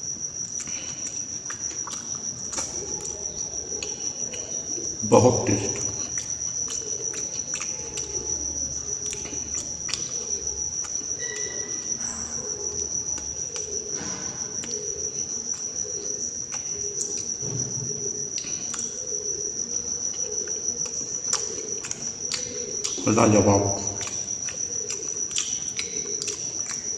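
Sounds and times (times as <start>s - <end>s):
cricket trilling: 0.0s - 26.9s
person chewing: 0.4s - 17.4s, 18.2s - 26.9s.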